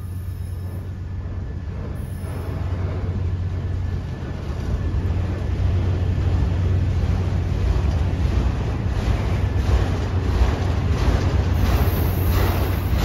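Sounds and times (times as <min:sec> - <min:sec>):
steel train wheels rumbling on rails: 0:00.0 - 0:13.0.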